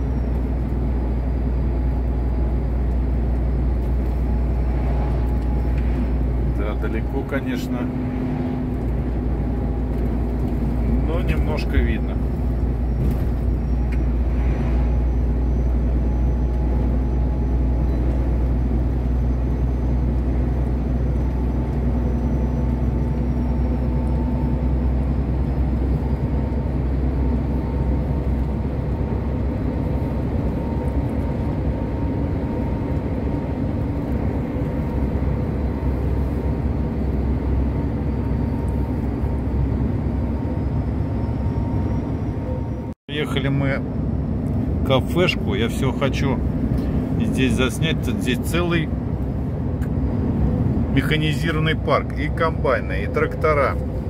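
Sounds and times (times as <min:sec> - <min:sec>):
road noise: 0:00.0 - 0:54.0
truck engine droning: 0:00.0 - 0:54.0.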